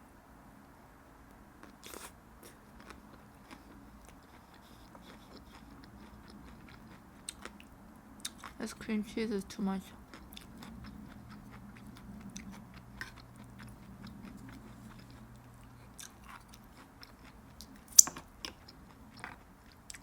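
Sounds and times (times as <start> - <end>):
chewing and crunching food: 1.6 - 8.8, 9.9 - 20.0.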